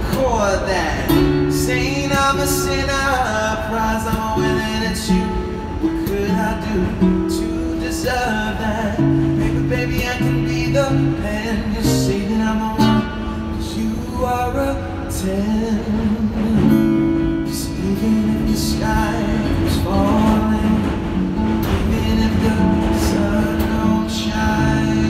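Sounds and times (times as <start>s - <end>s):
acoustic guitar strumming: 0.0s - 25.0s
man singing into microphone: 0.0s - 25.0s.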